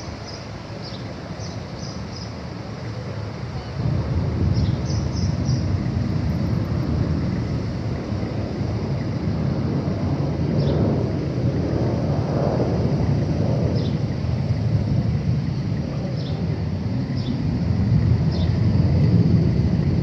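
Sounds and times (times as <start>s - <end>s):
distant rumble: 0.0s - 20.0s
wind rumbling on microphone: 0.0s - 20.0s.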